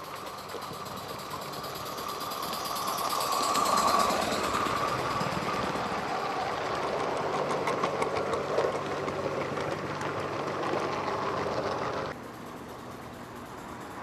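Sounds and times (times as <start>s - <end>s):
model train coaches rumbling: 0.0s - 14.0s.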